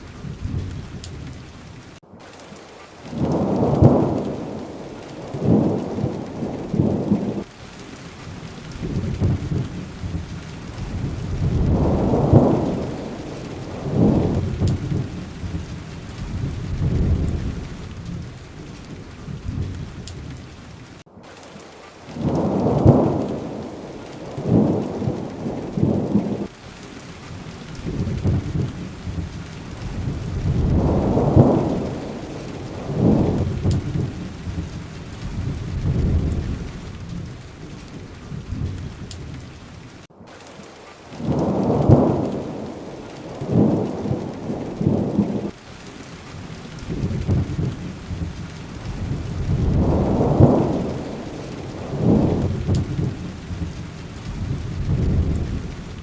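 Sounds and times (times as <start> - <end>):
thunder rumbling: 0.0 - 21.0, 22.1 - 56.0
rain falling: 0.0 - 56.0.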